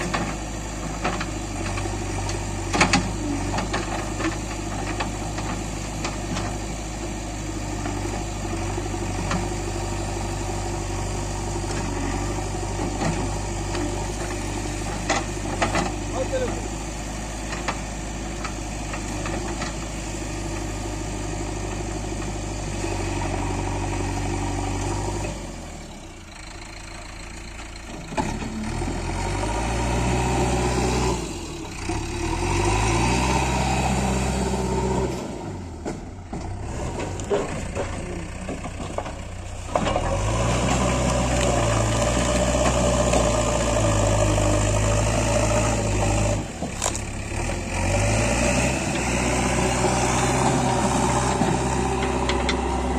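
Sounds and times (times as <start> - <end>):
diesel engine under load: 0.0 - 52.9.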